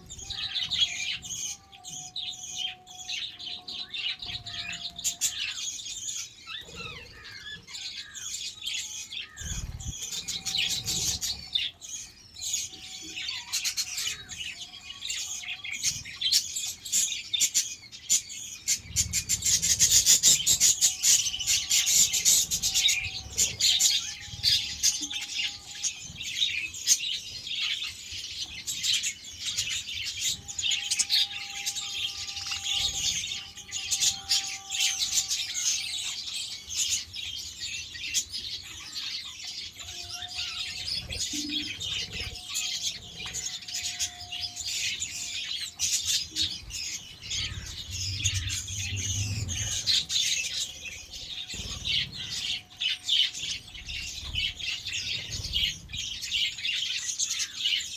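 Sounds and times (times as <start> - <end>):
budgerigars chirping: 0.0 - 57.9.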